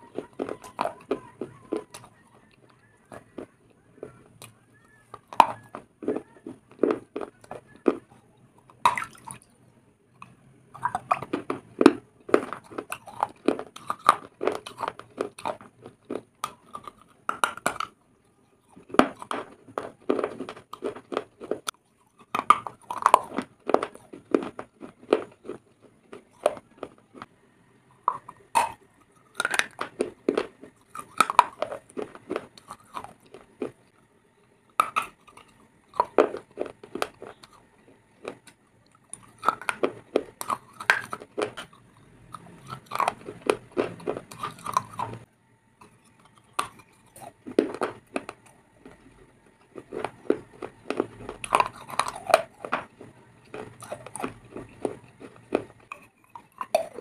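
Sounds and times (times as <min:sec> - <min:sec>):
person chewing crunchy food: 0:00.0 - 0:09.6, 0:10.2 - 0:18.0, 0:18.6 - 0:57.0.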